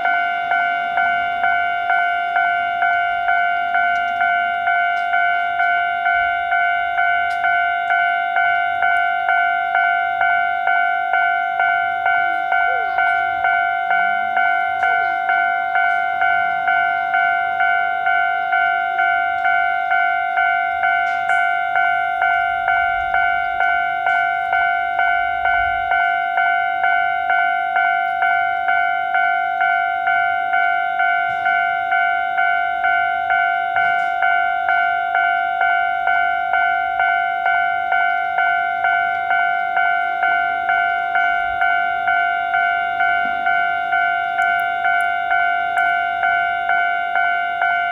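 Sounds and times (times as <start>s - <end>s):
railroad crossing bell ringing: 0.0s - 47.9s.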